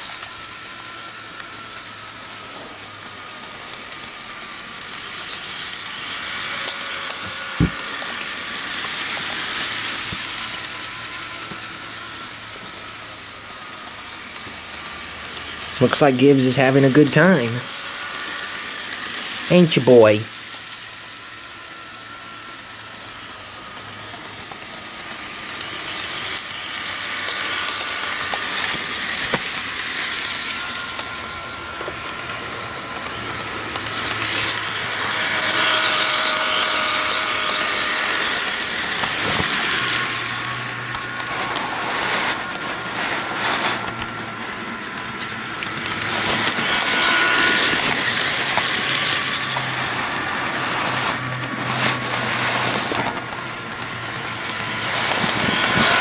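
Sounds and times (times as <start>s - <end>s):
model train wheels rattling: 0.0s - 56.0s
small electric motor whining: 0.0s - 56.0s.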